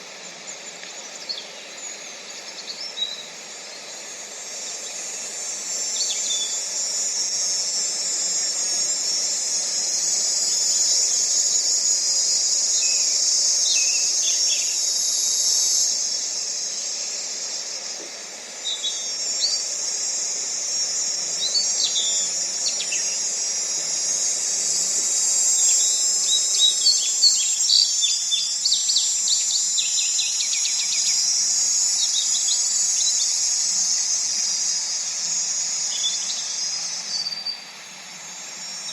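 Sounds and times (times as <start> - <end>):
insect chorus: 0.0 - 38.9.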